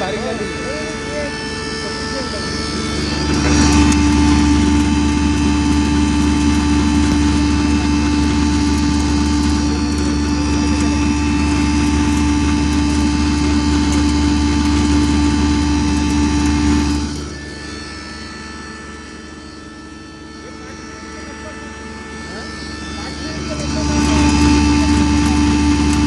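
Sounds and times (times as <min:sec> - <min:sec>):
grinder machine drone: 0:00.0 - 0:26.0.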